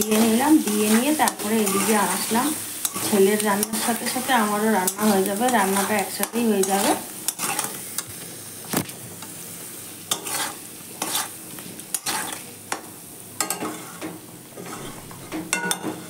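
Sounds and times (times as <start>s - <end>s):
spatula scraping a pan: 0.0s - 7.8s, 10.1s - 12.5s, 13.4s - 16.0s
potatoes sizzling in oil: 0.0s - 16.0s.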